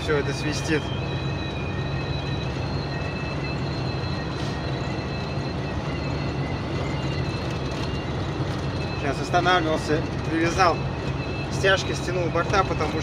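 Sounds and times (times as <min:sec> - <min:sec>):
road and engine noise: 0:00.0 - 0:13.0.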